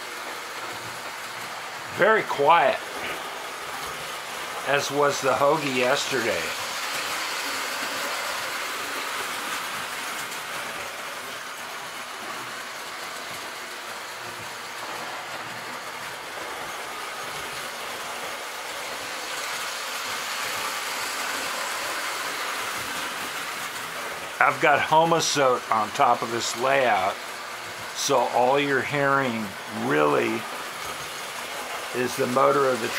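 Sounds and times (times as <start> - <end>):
toy train motor humming: 0.0 - 32.9.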